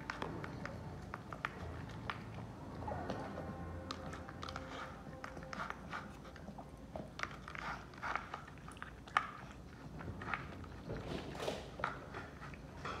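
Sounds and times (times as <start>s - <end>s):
dog chewing wetly: 0.0s - 13.0s.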